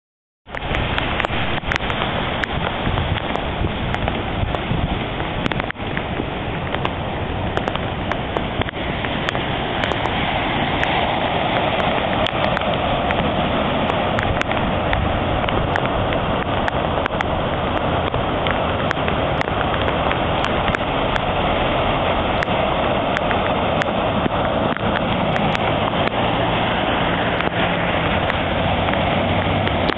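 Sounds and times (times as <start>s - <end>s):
cars splashing through floodwater: 0.5s - 29.9s
rain: 0.5s - 29.9s.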